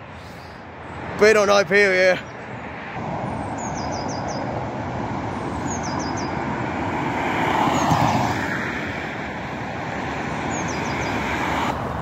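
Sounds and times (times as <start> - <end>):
vehicle passing: 0.8 - 12.0.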